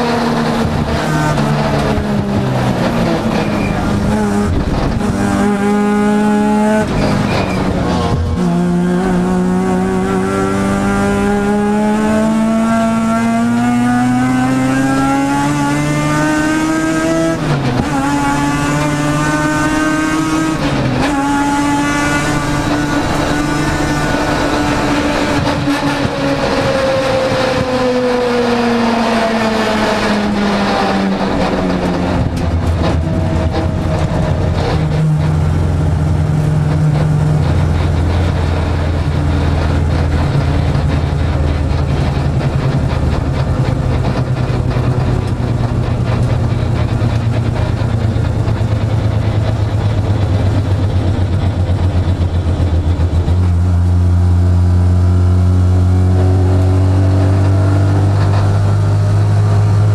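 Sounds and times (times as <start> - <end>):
rotary car engine: 0.0 - 59.9.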